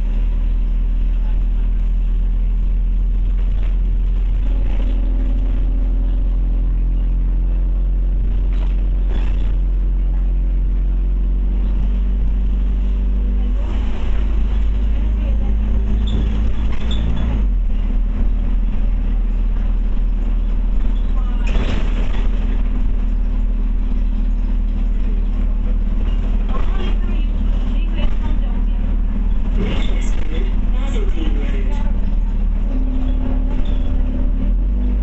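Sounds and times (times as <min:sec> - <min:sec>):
bus engine droning: 0:00.0 - 0:35.0
rattling inside bus: 0:00.0 - 0:35.0
road noise: 0:00.0 - 0:35.0.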